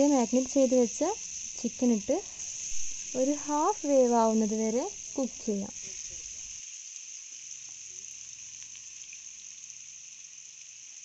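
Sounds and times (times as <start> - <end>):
faint crackles: 0.0 - 9.7
chicken sizzling in oil: 0.0 - 11.0.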